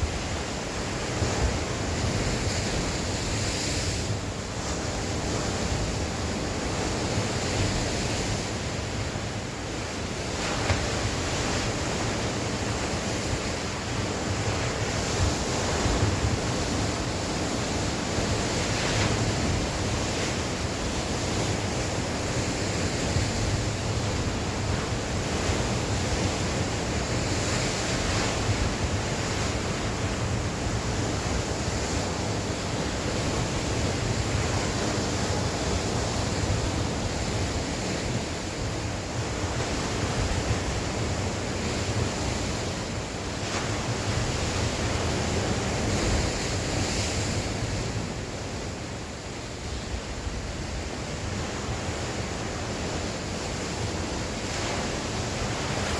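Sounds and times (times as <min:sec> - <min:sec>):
sea waves washing ashore: 0:00.0 - 0:55.9
wind blowing across microphone: 0:00.0 - 0:55.9.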